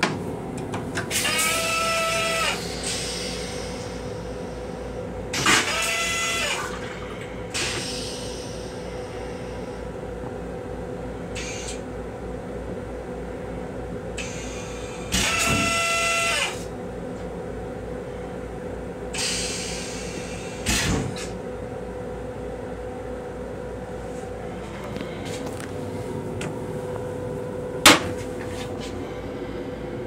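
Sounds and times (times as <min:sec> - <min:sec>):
railcar hum: 0:00.0 - 0:30.0.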